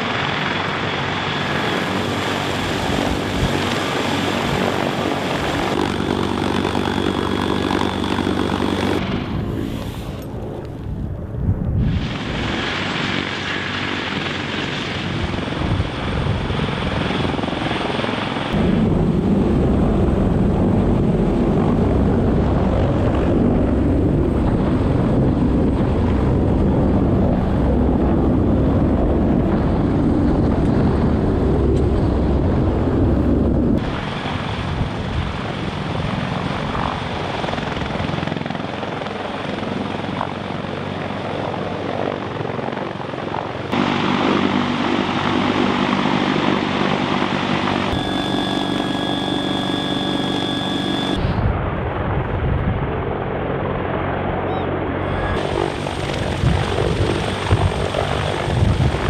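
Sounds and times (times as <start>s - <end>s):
helicopter hovering: 0.0s - 59.0s
rotor wash buffeting microphone: 0.0s - 59.0s.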